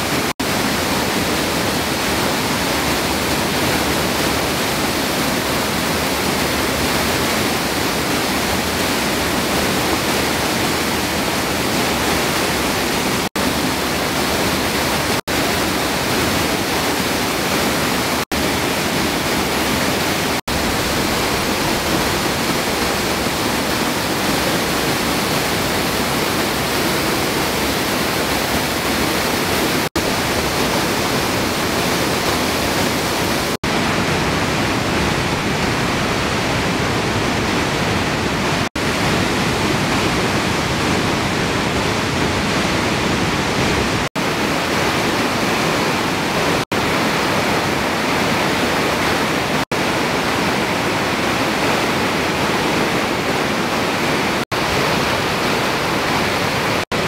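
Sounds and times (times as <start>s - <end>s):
waterfall rushing over rock: 0.0s - 57.0s.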